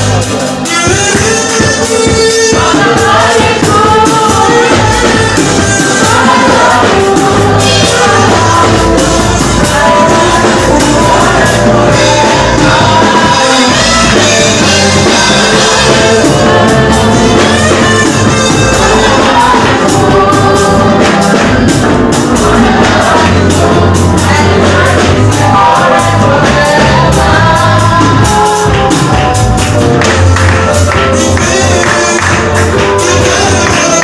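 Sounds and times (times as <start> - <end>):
person singing: 0.0 - 29.5, 30.6 - 34.0
band playing worship music: 0.0 - 34.0
drums: 0.0 - 34.0
steady bass: 0.0 - 34.0.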